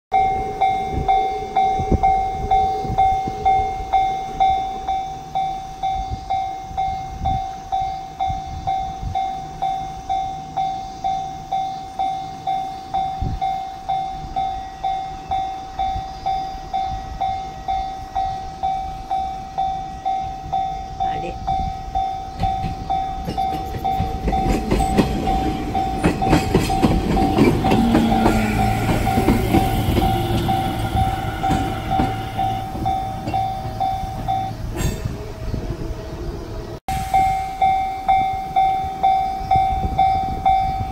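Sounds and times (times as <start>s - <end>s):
level crossing warning bell: 0.1s - 34.8s, 36.9s - 40.9s.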